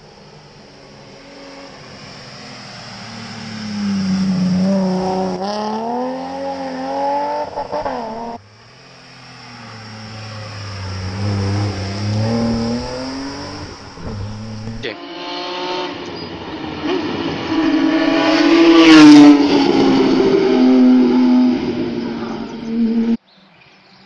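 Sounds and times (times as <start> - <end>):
rally car engine accelerating: 1.4 - 23.2.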